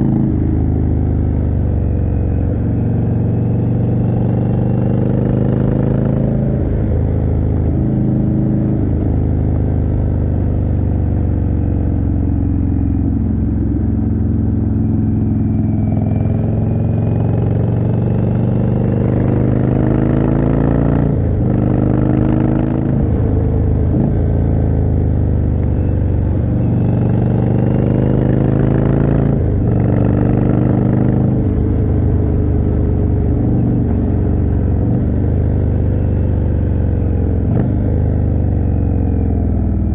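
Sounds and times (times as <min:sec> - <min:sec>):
motorcycle engine revving while riding: 0:00.0 - 0:39.9.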